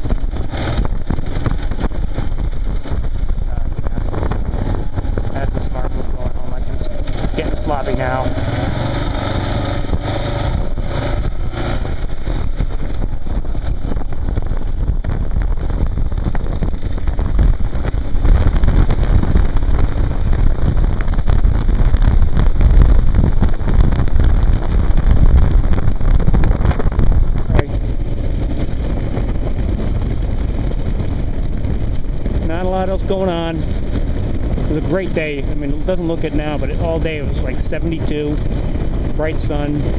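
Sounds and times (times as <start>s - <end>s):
moving vehicle running: 0.0s - 39.9s
wind rumble on microphone: 0.0s - 39.9s.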